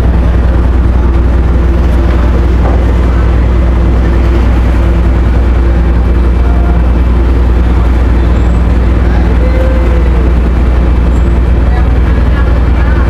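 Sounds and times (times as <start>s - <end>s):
ferry engines humming: 0.0s - 13.0s.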